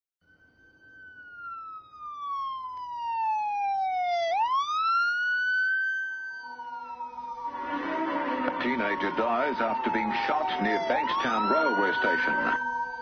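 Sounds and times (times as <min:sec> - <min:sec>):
siren wailing: 0:00.2 - 0:13.0.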